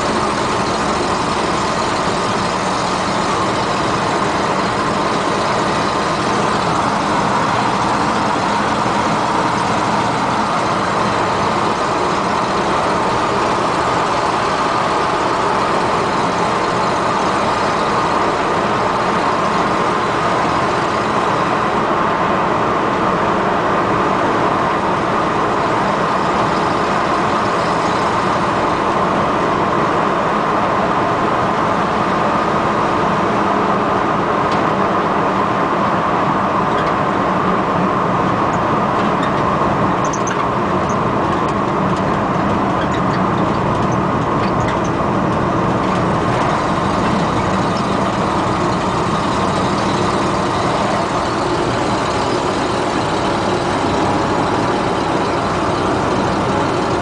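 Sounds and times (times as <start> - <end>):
pickup engine from inside cab: 0.0 - 57.0
road noise: 0.0 - 57.0.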